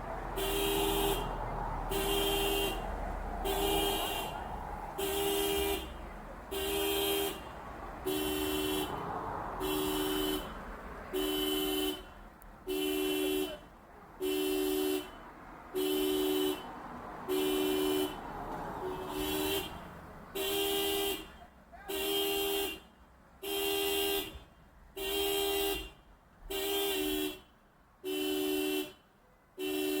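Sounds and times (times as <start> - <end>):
car horn blasts: 0.0 - 30.0.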